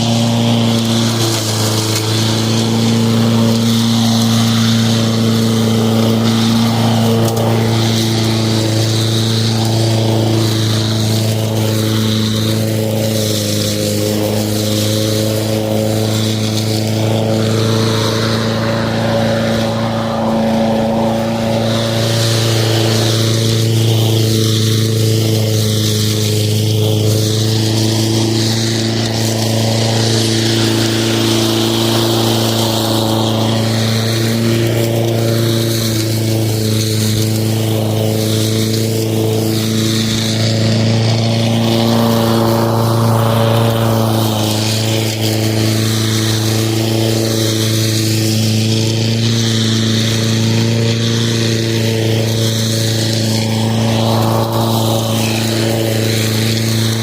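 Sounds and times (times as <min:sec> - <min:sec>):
lawn mower running: 0:00.0 - 0:57.0.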